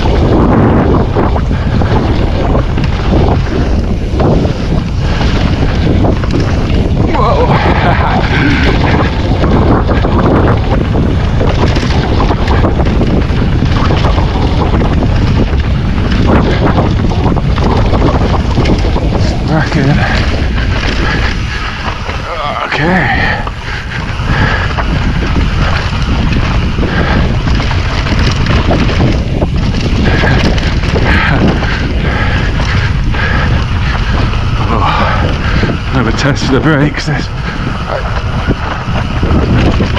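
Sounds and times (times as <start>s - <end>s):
bike rattling and knocking: 0.0s - 39.9s
tyres rumbling on ground: 0.0s - 39.9s
wind on microphone: 0.0s - 39.9s.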